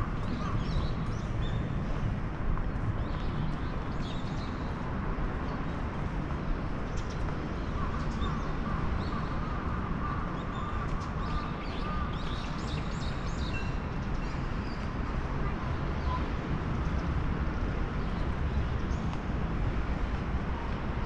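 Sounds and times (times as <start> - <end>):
low city rumble: 0.0 - 21.0.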